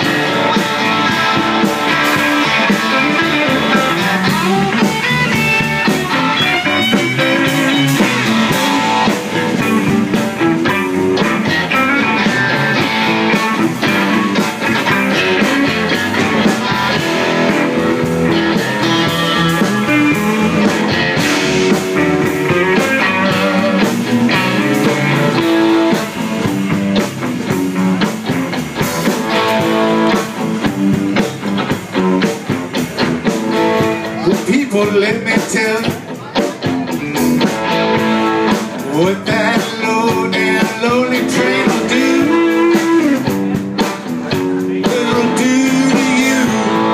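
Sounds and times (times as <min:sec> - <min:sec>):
electric blues band playing: 0:00.0 - 0:46.9
electric guitar: 0:00.0 - 0:46.9.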